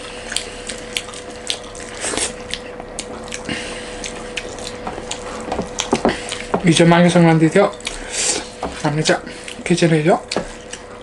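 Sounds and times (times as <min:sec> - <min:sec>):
chewing and mouth clicks: 0:00.0 - 0:06.6, 0:07.6 - 0:08.5, 0:09.4 - 0:11.0
faint steady hum: 0:00.0 - 0:11.0.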